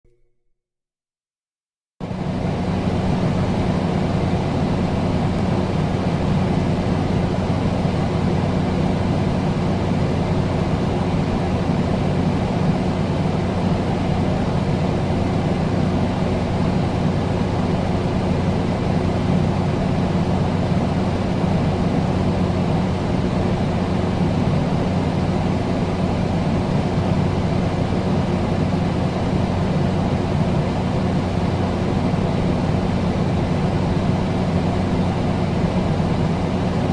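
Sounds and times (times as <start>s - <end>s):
air conditioner running: 2.0s - 36.9s.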